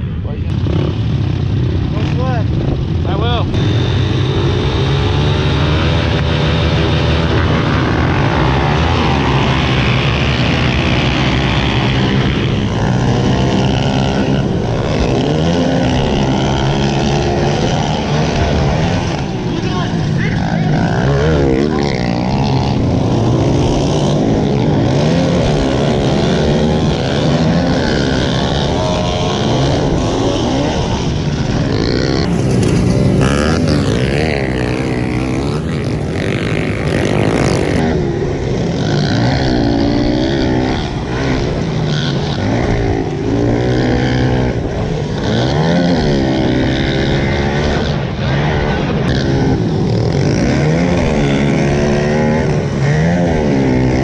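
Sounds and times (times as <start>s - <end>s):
pit bike engines revving: 0.4s - 54.0s.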